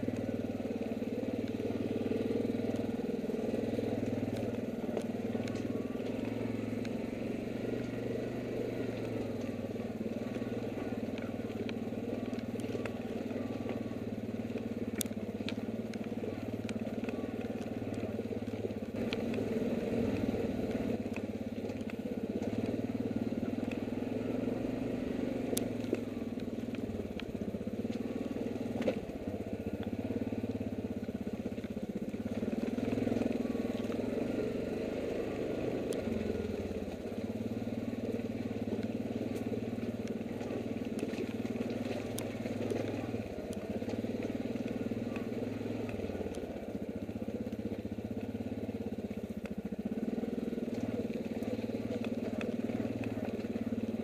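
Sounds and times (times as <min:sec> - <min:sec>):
quad bike engine at low revs: 0:00.0 - 0:54.0.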